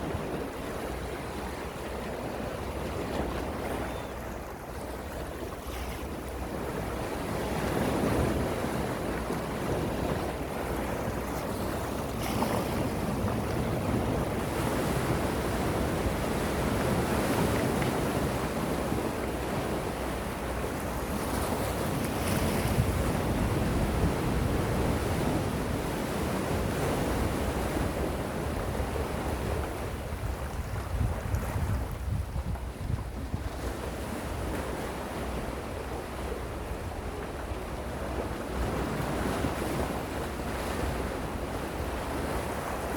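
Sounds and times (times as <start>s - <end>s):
ocean waves washing on shore: 0.0s - 42.9s.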